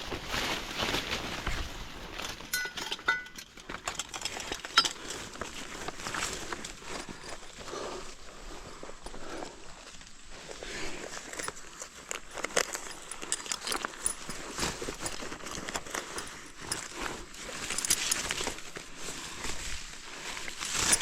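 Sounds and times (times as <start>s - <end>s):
footsteps on dry leaves: 0.0s - 3.4s, 5.0s - 21.0s.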